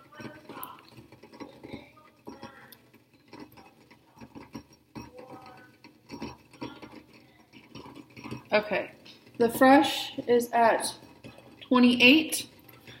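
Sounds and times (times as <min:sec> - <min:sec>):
light clicks and ticks: 0:00.0 - 0:13.0.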